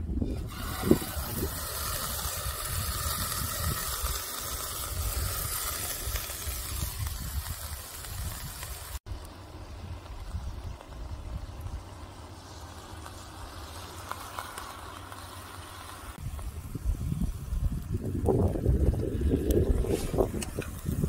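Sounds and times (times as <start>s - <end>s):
meat sizzling in pot: 0.4s - 9.0s, 9.8s - 19.3s.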